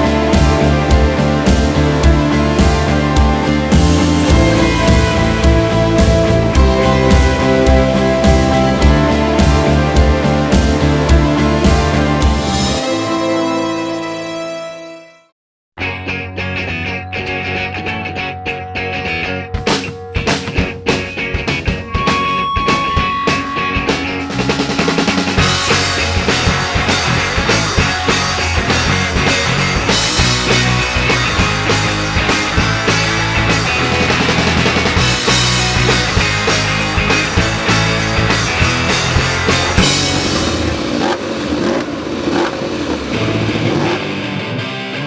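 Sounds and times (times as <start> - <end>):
drum kit beat: 0.0 - 12.8, 19.5 - 44.2
heavy bass: 0.0 - 13.9, 15.8 - 45.0
rock music: 0.0 - 15.0, 15.8 - 45.0.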